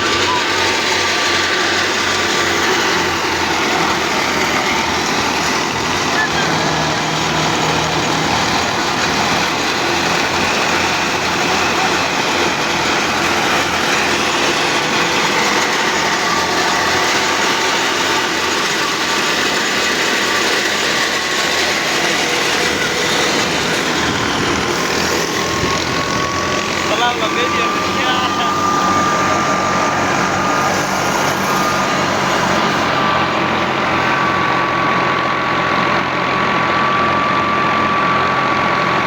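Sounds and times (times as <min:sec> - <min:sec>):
tractor engine and threshing drum: 0:00.0 - 0:39.0.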